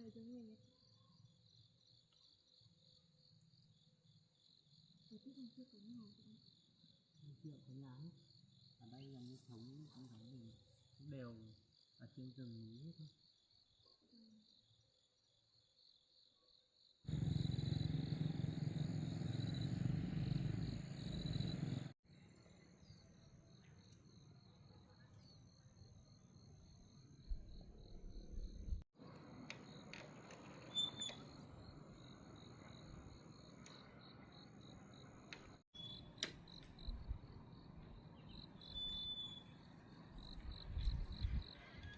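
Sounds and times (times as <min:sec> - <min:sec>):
insects chirping in a fast trill: 0:00.4 - 0:41.7.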